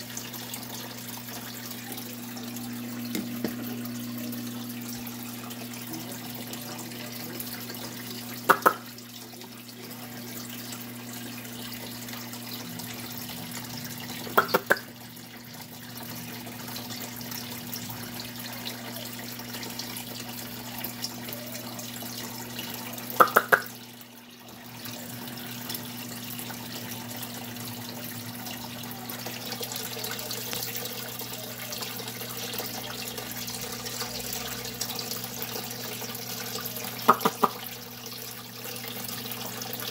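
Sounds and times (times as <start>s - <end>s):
aquarium water running: 0.0s - 39.9s
low pump hum: 0.0s - 39.9s.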